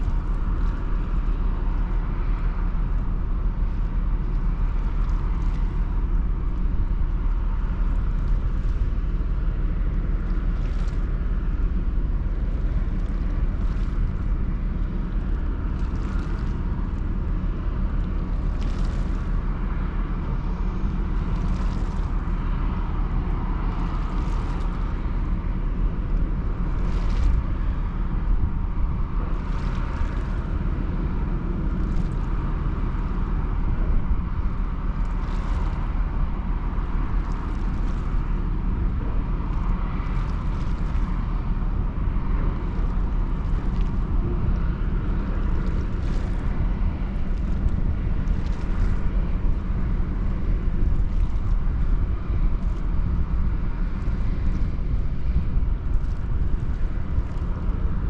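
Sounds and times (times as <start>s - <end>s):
ferry engine rumble: 0.0s - 58.0s.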